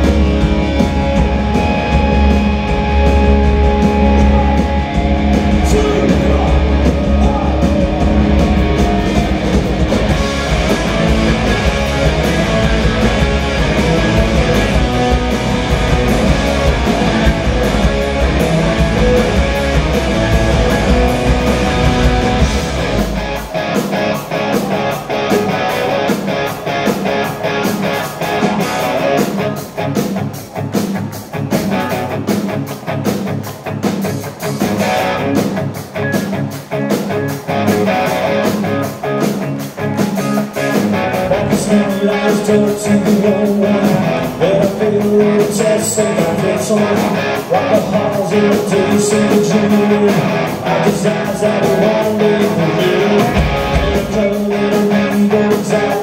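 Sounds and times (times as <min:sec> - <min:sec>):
choppy guitar strokes: 0:00.0 - 0:56.0
rock band playing live: 0:00.0 - 0:56.0.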